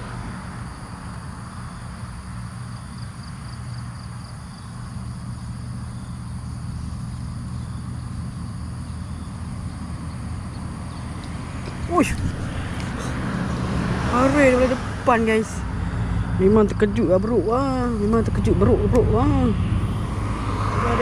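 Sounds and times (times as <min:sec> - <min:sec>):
distant road traffic hum: 0:00.0 - 0:21.0
faint insect chirps: 0:00.0 - 0:21.0.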